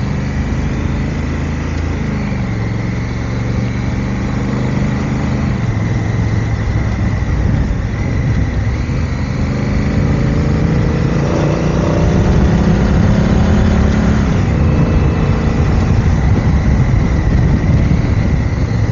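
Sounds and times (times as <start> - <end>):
motorcycle engine running: 0.0 - 18.9
steady rush of noise: 0.0 - 18.9.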